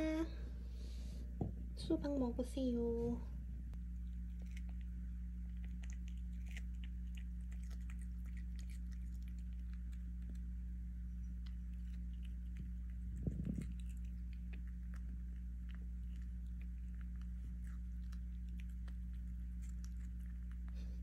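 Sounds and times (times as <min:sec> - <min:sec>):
low hum: 0:00.0 - 0:21.0
kitten chewing wetly: 0:03.7 - 0:21.0.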